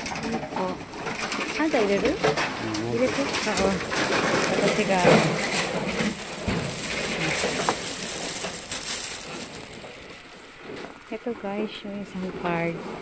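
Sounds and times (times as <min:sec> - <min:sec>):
plastic bag rustling: 0:00.0 - 0:11.1.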